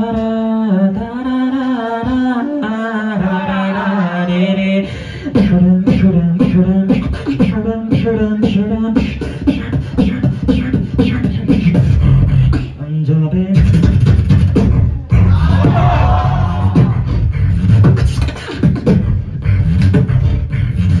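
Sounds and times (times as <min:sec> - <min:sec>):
beatboxing into a microphone: 0:00.0 - 0:21.0.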